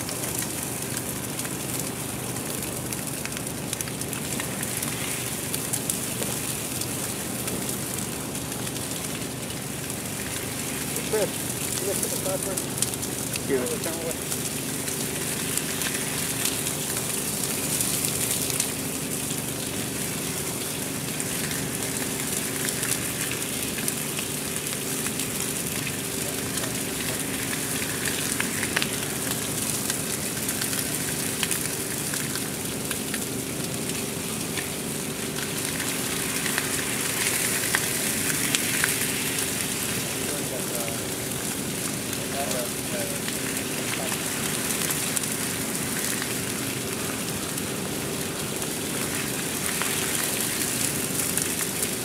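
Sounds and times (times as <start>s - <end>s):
fire crackling and rushing: 0.0s - 52.0s.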